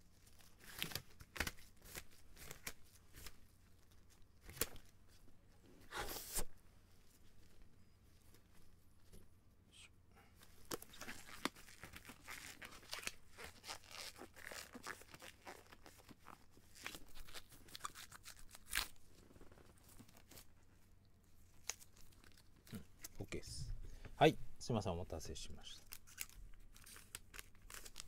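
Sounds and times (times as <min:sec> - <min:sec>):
gloves crackling and rustling: 0:00.0 - 0:09.4, 0:10.2 - 0:23.4, 0:24.6 - 0:28.0.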